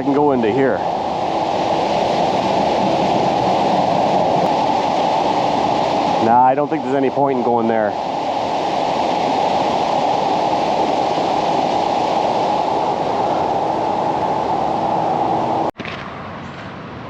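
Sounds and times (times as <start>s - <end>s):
river water rushing: 0.0s - 15.7s.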